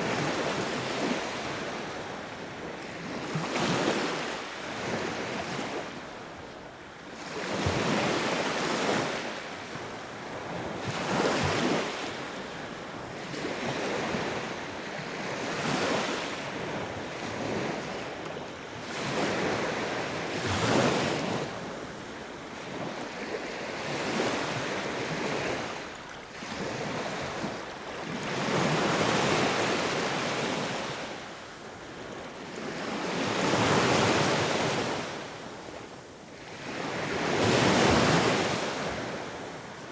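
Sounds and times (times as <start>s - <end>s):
waves breaking and washing in: 0.0s - 39.9s.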